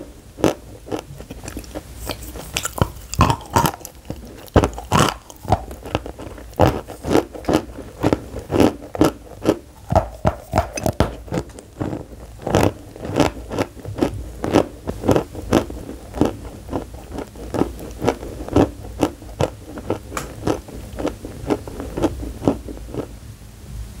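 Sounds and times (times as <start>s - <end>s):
chewing crunchy block: 0.4s - 23.1s.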